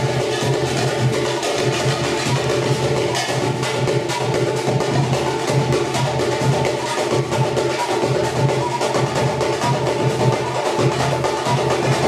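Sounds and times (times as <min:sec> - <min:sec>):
group of drummers playing: 0:00.0 - 0:12.0.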